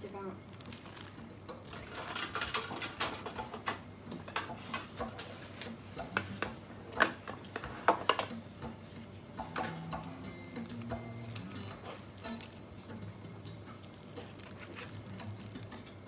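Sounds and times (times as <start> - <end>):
dishes and utensils clinking: 2.0 - 8.8, 9.4 - 15.9.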